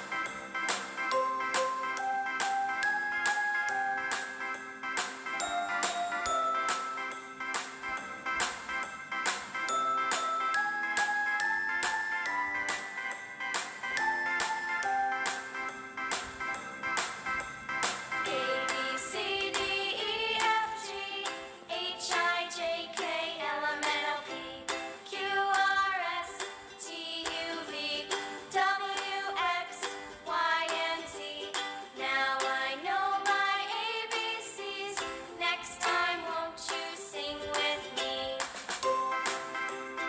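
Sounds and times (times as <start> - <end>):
background music with melody: 0.0 - 40.0.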